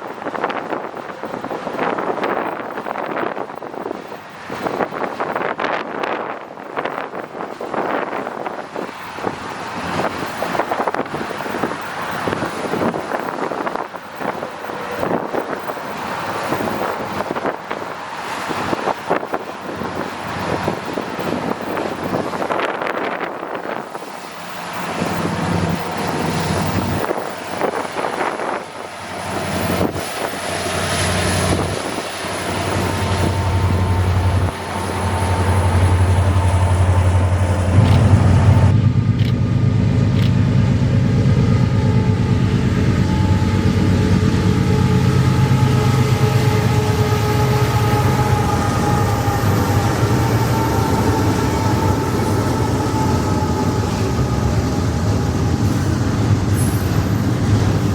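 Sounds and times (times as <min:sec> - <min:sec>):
diesel locomotive engine hum: 0:00.0 - 0:57.9
freight train passing rumble: 0:00.0 - 0:57.9.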